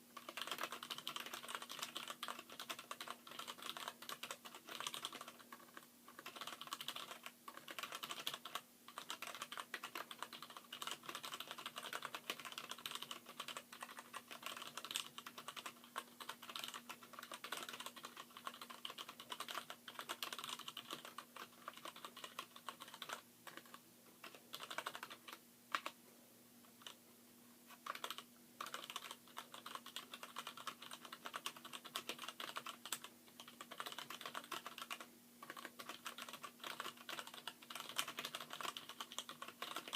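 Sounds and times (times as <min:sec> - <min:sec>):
fast typing on mechanical keyboard: 0:00.2 - 0:26.0, 0:27.8 - 0:39.9.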